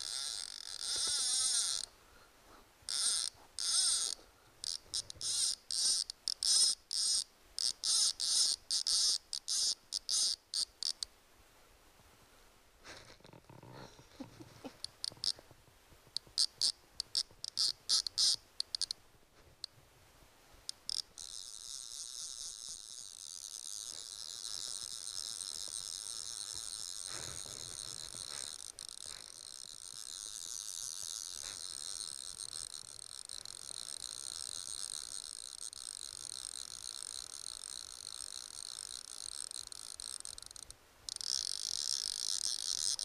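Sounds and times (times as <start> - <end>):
fly reel ratchet buzzing: 0.0 - 1.9, 2.9 - 11.0, 16.4 - 19.0, 20.7 - 43.0.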